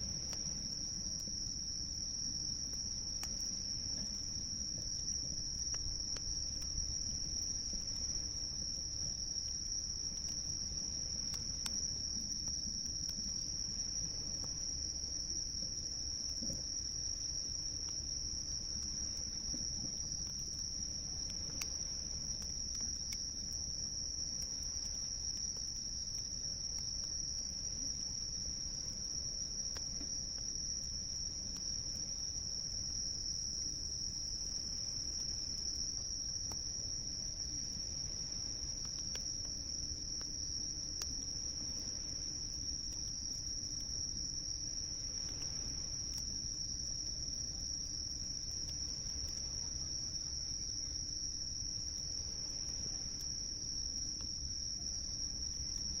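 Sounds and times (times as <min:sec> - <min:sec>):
campfire crackles: 0:00.0 - 0:56.0
insects trilling: 0:00.0 - 0:56.0.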